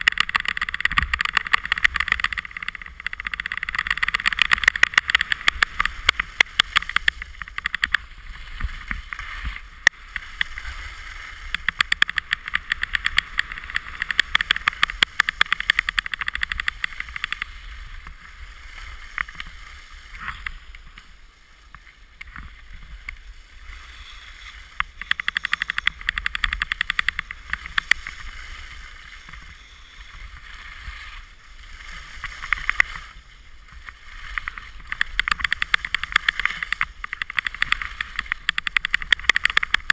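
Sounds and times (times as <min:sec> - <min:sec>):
crackling ski chatter: 0:00.0 - 0:39.9
skis scraping on snow: 0:00.0 - 0:39.9.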